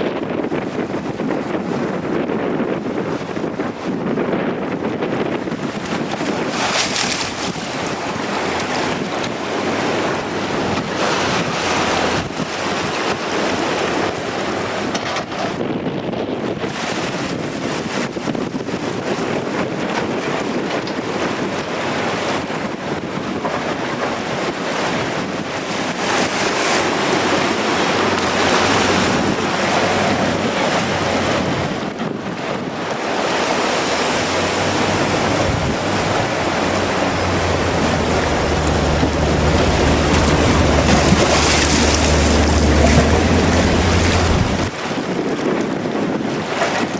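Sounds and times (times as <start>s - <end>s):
sea surf rushing: 0.0s - 15.8s, 16.4s - 46.9s
wind buffeting microphone: 0.0s - 46.9s.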